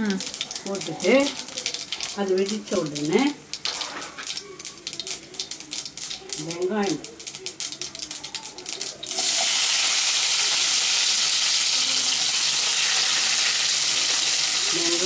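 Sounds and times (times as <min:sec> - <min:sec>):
onions sizzling in oil: 0:00.0 - 0:15.0
seeds crackling in hot oil: 0:00.0 - 0:15.0.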